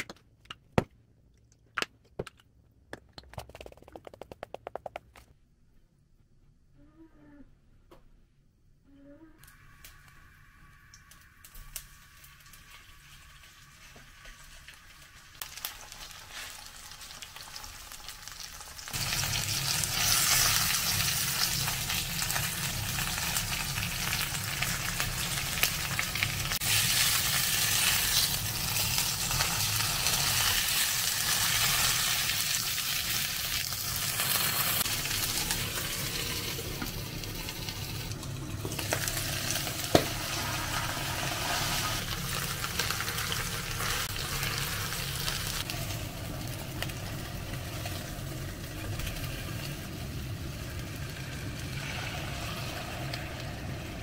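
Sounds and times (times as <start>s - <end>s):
chicken sizzling in a frying pan: 9.5s - 54.0s.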